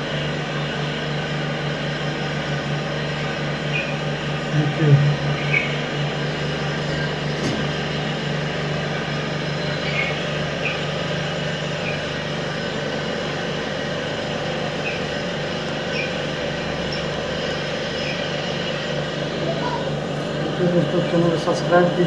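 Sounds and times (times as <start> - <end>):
mechanical motor hum: 0.0 - 22.0
small birds chirping: 3.0 - 22.0.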